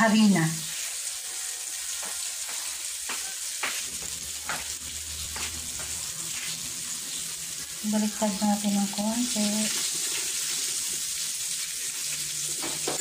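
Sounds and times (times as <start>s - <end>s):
oil sizzling in pan: 0.0s - 13.0s.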